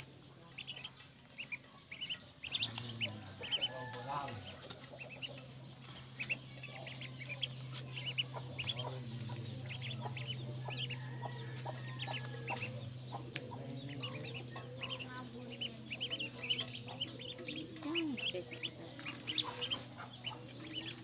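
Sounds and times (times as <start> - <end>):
ducklings peeping: 0.0 - 21.0
steady low hum: 0.0 - 21.0.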